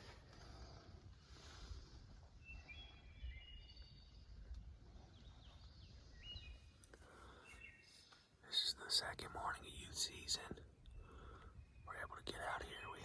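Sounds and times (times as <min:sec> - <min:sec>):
faint songbird calls: 0:02.3 - 0:13.0.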